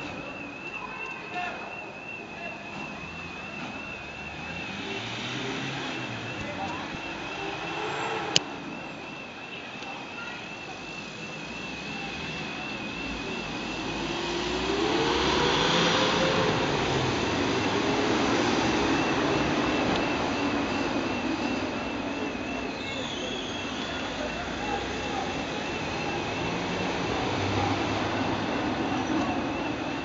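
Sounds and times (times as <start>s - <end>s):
van engine pulling away: 2.8s - 9.2s, 10.8s - 30.0s.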